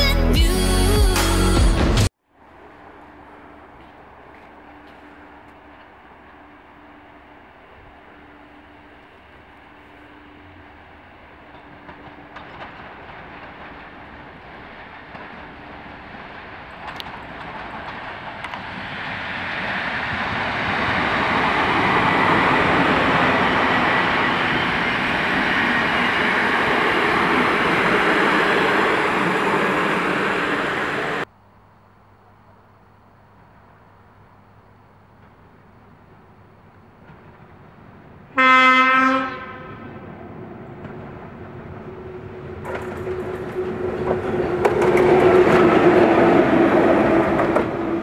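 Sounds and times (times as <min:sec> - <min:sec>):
train passing on rails: 0:02.0 - 0:31.4, 0:32.2 - 0:48.0.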